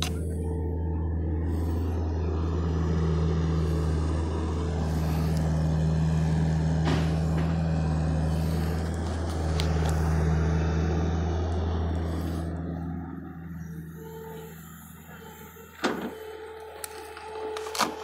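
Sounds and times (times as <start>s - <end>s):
excavator diesel engine humming: 0.0s - 18.0s.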